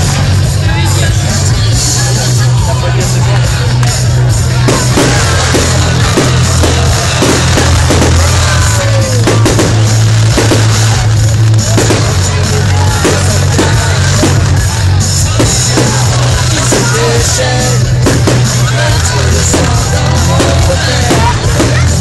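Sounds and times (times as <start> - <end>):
loud music with heavy drum beat: 0.0 - 22.0
fireworks bursting and crackling: 3.8 - 22.0.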